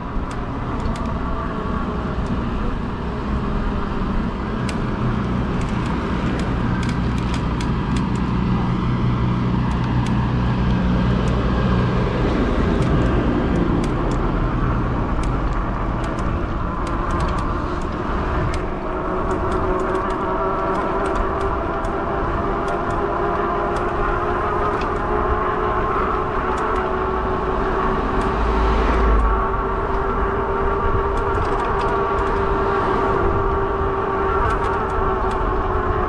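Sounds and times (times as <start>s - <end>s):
vehicle engine hum and tyre noise: 0.0s - 36.0s.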